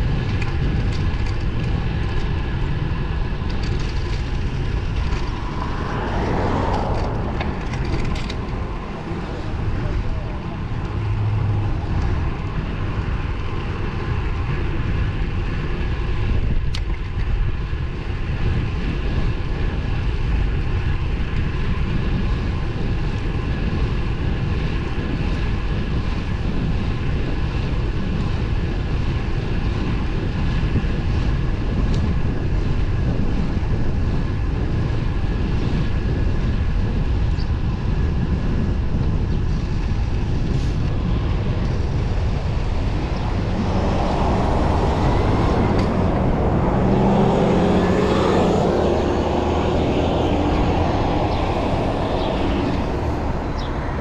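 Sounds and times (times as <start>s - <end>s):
bike tyres on road: 0.0s - 54.0s
wind rushing on microphone: 0.0s - 54.0s.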